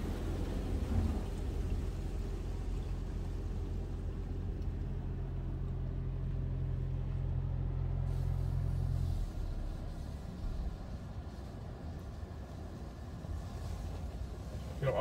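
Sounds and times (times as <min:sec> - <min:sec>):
car wash machinery humming: 0:00.0 - 0:15.0.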